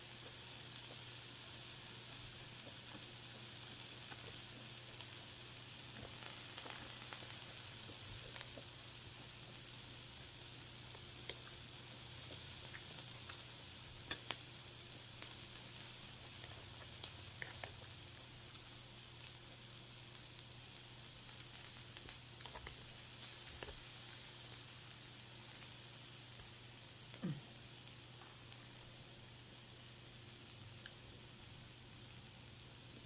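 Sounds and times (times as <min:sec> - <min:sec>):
food sizzling on a grill: 0:00.0 - 0:33.0.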